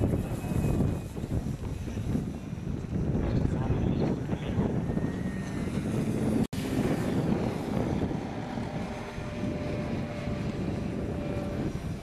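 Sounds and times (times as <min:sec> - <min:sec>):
model airplane motor and propeller: 0:00.0 - 0:12.0.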